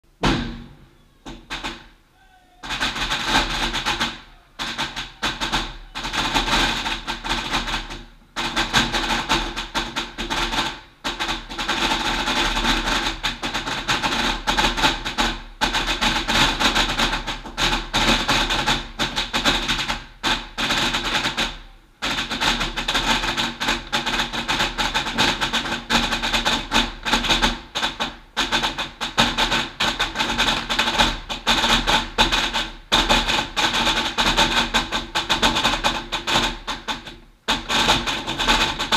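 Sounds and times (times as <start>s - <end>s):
firecrackers crackling: 0.1s - 2.0s, 2.6s - 38.9s.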